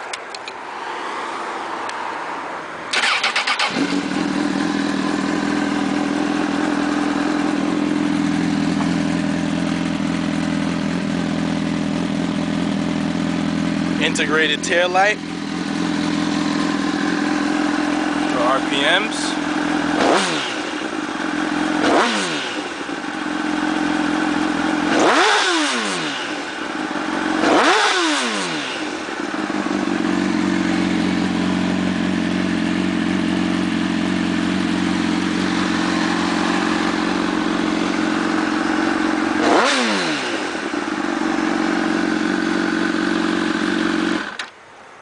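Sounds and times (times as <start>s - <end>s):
motorcycle engine idling: 2.9s - 44.5s
motorcycle engine revving: 2.9s - 44.5s.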